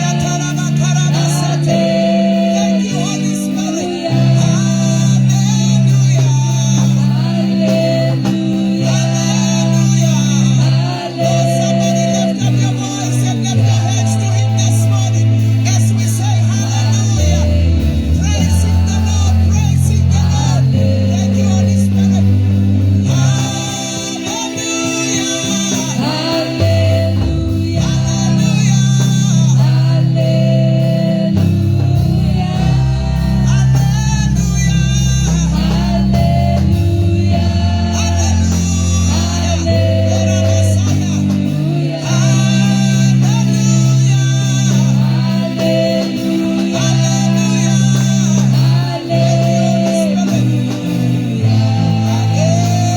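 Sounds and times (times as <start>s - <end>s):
gospel band playing: 0.0s - 52.9s
singers singing: 0.0s - 52.9s.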